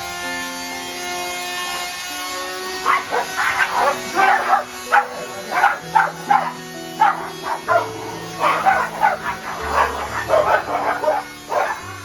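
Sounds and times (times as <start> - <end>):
music with low held notes: 0.0 - 12.0
dogs barking and yipping: 0.2 - 12.0.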